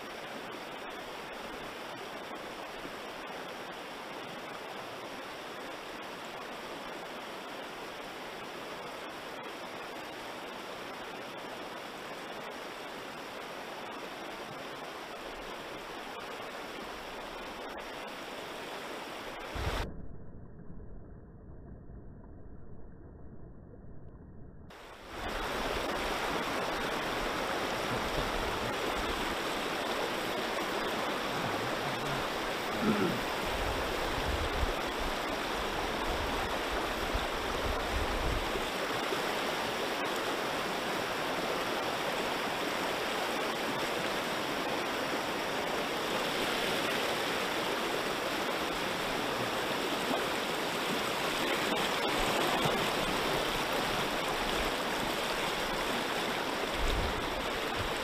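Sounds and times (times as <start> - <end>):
river water rushing: 0.0 - 19.8, 24.8 - 58.0.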